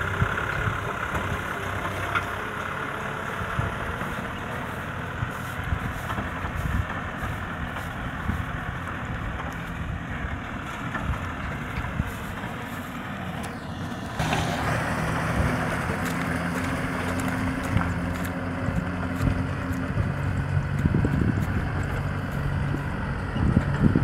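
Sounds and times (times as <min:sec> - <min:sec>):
low rumbles: 0:00.0 - 0:24.0
tractor diesel engine running: 0:00.0 - 0:24.0.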